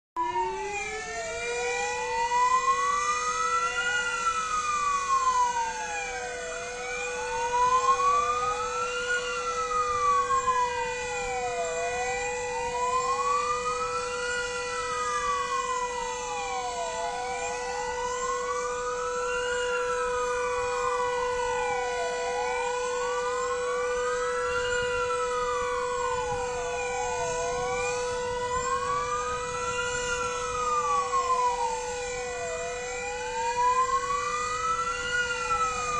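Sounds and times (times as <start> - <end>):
sirens wailing: 0.2 - 35.9
steady siren tone: 0.2 - 35.9.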